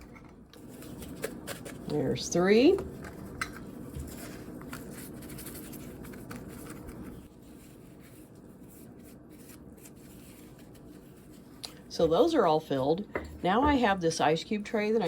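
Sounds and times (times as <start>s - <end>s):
soft scraping and handling: 0.6s - 13.6s.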